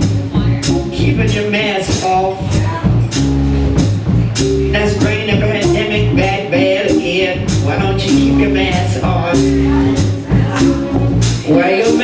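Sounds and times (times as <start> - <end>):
bass: 0.0 - 12.0
drum kit beat: 0.0 - 12.0
guitar: 0.0 - 12.0
keyboards: 0.0 - 12.0.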